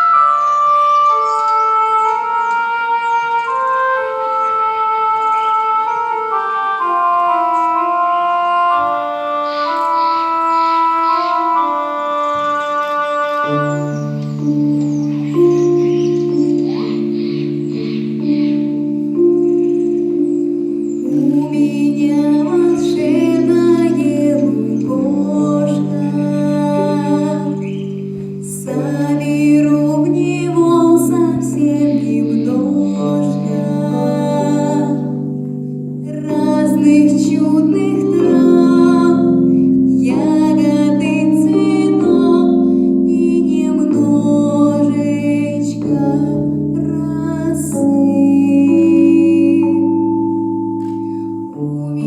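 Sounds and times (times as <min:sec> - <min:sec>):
held accompaniment chords: 0:00.0 - 0:52.0
person singing: 0:05.8 - 0:35.4, 0:36.0 - 0:52.0.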